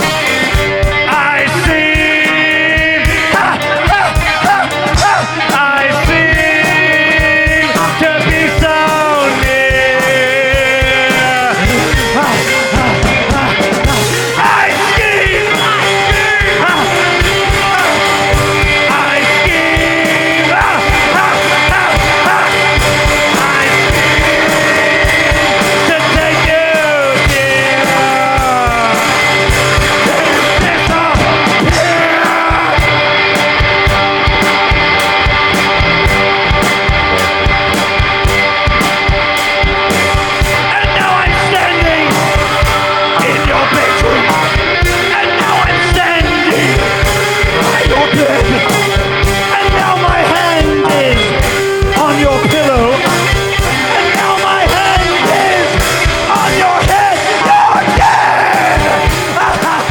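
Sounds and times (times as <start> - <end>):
lead guitar line bending notes: 0.0 - 59.9
rock band playing live: 0.0 - 59.9
steady drums: 0.0 - 59.9.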